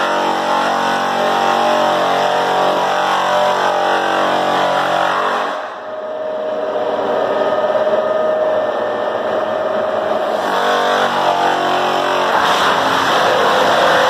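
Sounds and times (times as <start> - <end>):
floor sander grinding: 0.0 - 14.0.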